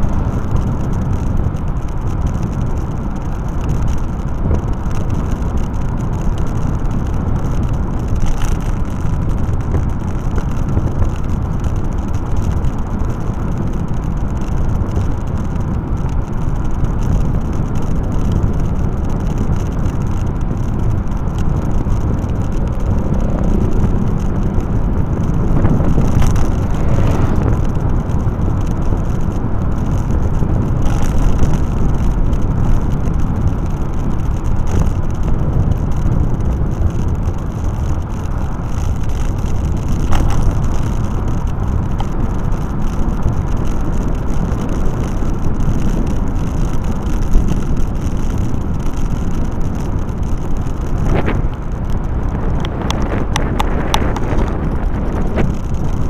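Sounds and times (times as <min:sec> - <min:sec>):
road noise: 0:00.0 - 0:56.0
wind buffeting microphone: 0:00.0 - 0:56.0
wind rumble: 0:00.0 - 0:56.0.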